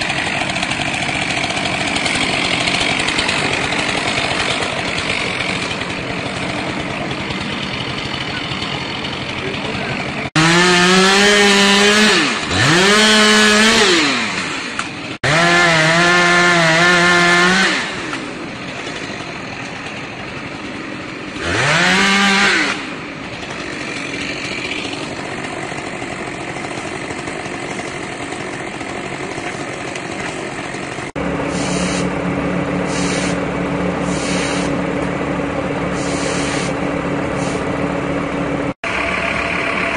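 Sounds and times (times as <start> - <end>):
chainsaw revving: 0.0 - 38.0.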